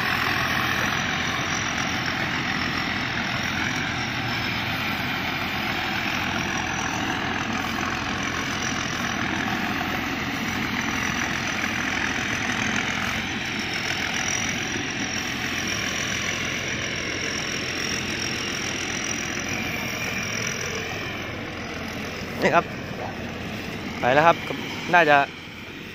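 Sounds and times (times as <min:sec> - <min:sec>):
combine harvester running: 0:00.0 - 0:25.9
high steady whine: 0:00.0 - 0:25.9.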